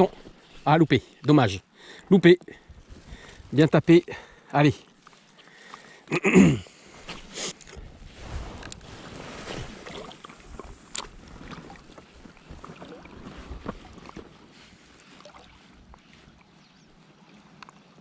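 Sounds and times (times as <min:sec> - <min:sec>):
water lapping and splashing: 0:02.6 - 0:06.1, 0:06.7 - 0:18.0.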